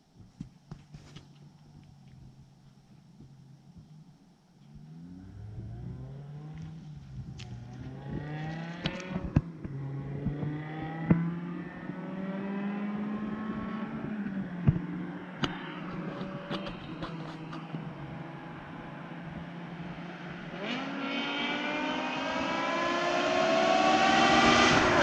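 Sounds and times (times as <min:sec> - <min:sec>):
car engine revving: 0:04.8 - 0:25.0.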